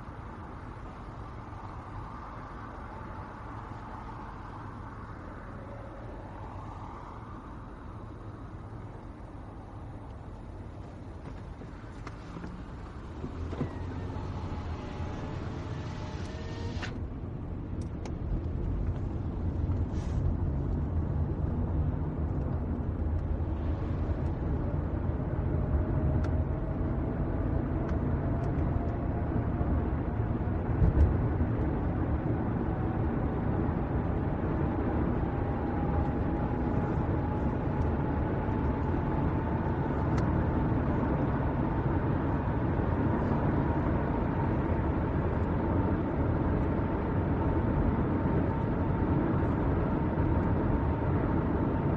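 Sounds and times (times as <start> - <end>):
engine and road rumble: 0.0 - 51.9.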